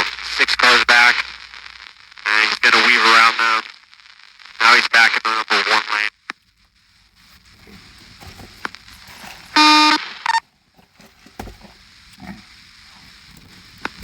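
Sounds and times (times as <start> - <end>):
radio click: 0.0 - 10.4, 11.4 - 14.0
buzzy radio tone: 0.0 - 10.5, 11.4 - 14.0
faint radio static: 0.0 - 14.0.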